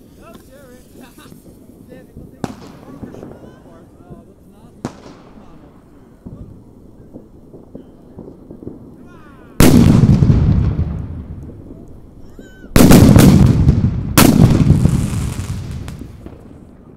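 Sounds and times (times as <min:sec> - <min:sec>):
loud firecracker bangs: 0:00.0 - 0:16.9
rolling echo: 0:01.3 - 0:16.9.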